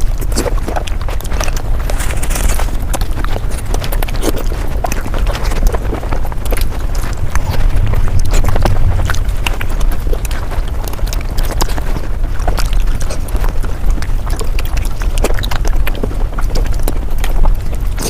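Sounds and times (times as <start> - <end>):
chewing and mouth clicks: 0.0 - 18.0
steady low rumble: 0.0 - 18.0.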